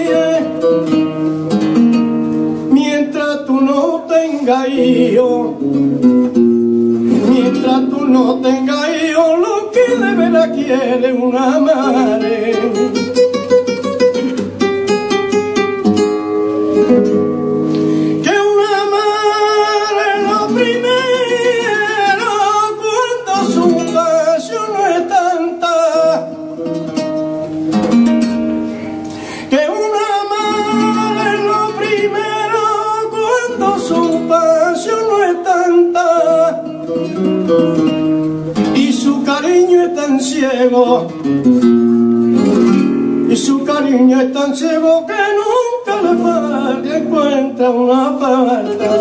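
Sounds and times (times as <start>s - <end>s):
man singing flamenco: 0.0s - 49.0s
plucked acoustic guitar: 0.0s - 49.0s.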